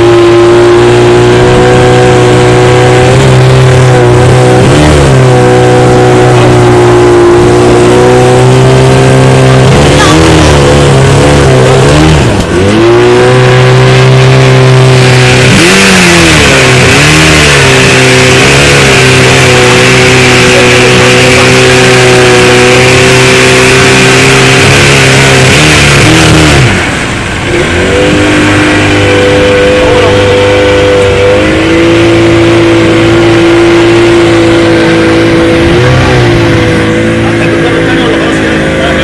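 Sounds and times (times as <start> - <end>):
boat engine running hard: 0.0 - 39.0
rush of water and wind: 0.0 - 39.0.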